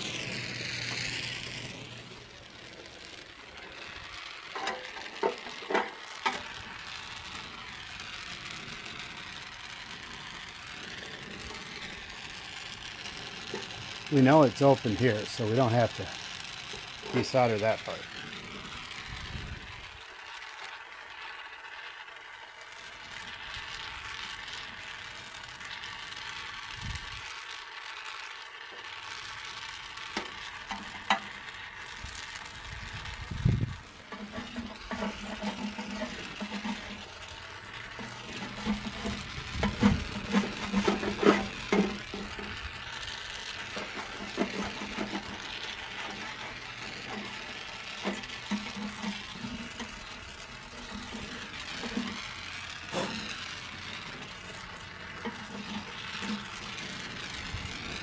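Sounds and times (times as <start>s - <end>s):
torch hissing: 0.0s - 58.0s.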